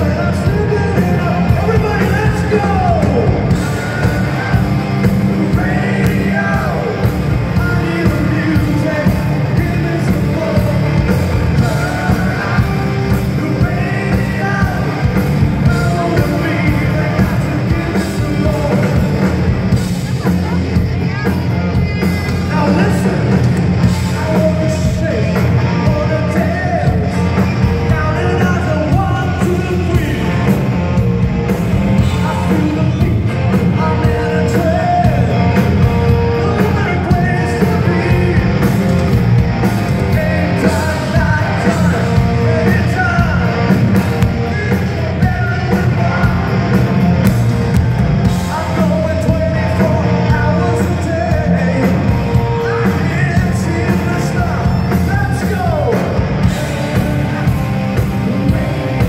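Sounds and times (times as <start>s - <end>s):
man singing: 0.0s - 31.0s, 32.0s - 47.4s, 48.2s - 59.0s
bass guitar: 0.0s - 59.0s
drums: 0.0s - 59.0s
electric guitars: 0.0s - 59.0s.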